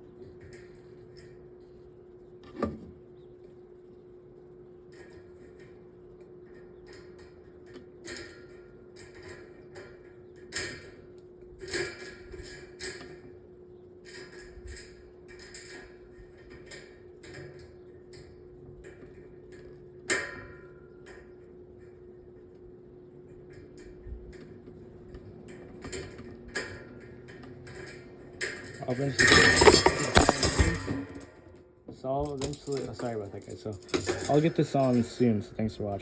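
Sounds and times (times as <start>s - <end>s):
fan motor humming: 0.0s - 36.0s.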